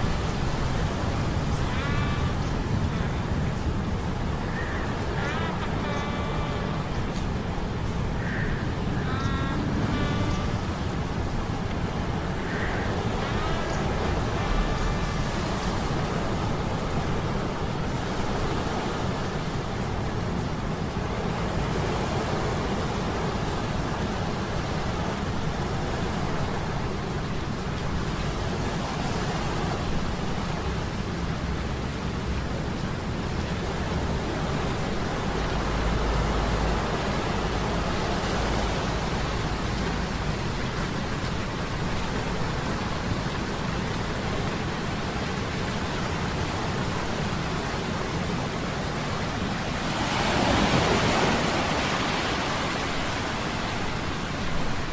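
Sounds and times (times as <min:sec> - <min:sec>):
rushing wash of waves: 0:00.0 - 0:54.9.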